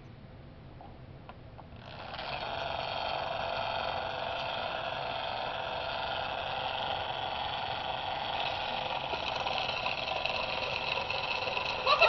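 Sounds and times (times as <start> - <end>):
clockwork motor whirring: 1.8 - 12.0.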